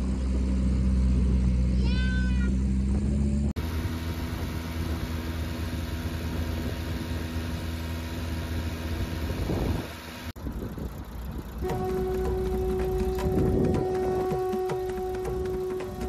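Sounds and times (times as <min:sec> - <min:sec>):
motorboat engine running: 0:00.0 - 0:16.0
wind: 0:00.0 - 0:16.0.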